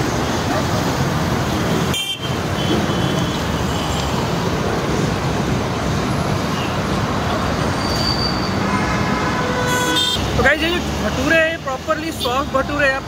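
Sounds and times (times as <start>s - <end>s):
roadside traffic noise: 0.0s - 13.0s.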